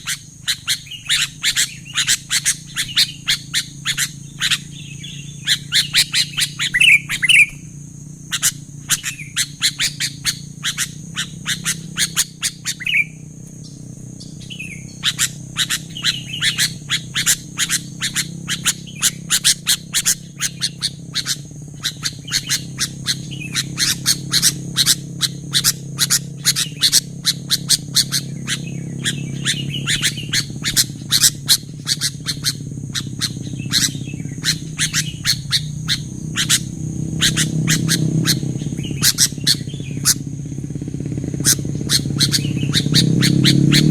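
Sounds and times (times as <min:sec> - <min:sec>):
bird chirping rapidly: 0:00.0 - 0:43.9
steady high-pitched hiss: 0:00.0 - 0:43.9.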